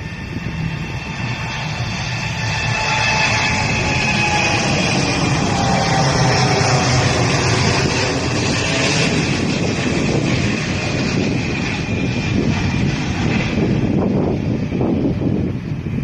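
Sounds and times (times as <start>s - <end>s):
jet engine roar with fan whine: 0.0s - 16.0s.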